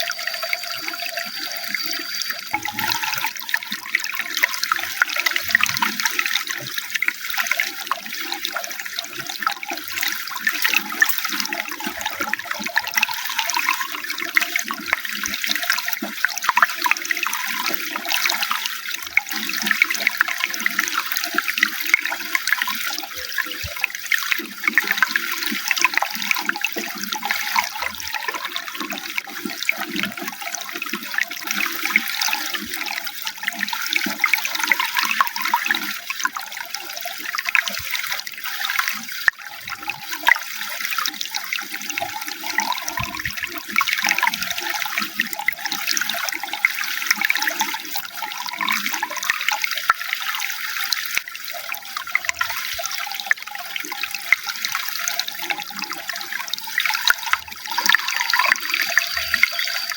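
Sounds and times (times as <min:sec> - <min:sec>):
running water splashing: 0:00.0 - 0:59.9.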